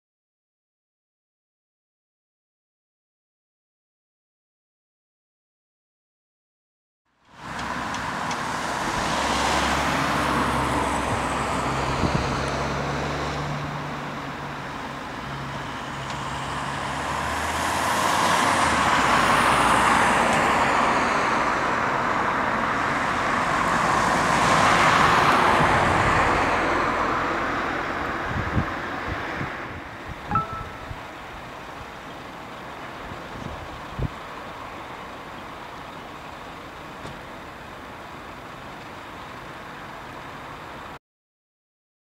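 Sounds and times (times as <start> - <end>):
cars passing: 7.3 - 41.0.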